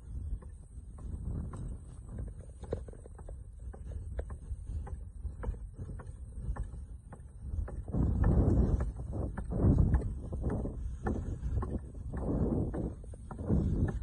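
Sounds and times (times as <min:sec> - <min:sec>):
wind buffeting a microphone: 0:00.0 - 0:14.0.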